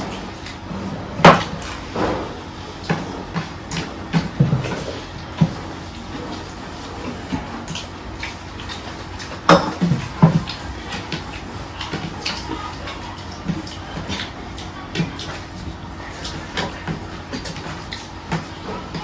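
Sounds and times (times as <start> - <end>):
wet chewing and mouth sounds: 0.0 - 19.0.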